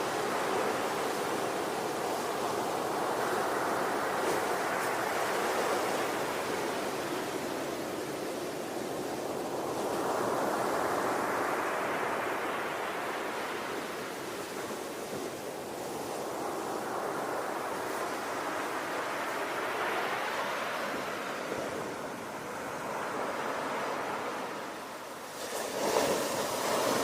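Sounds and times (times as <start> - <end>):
ocean waves washing in: 0.0 - 27.0.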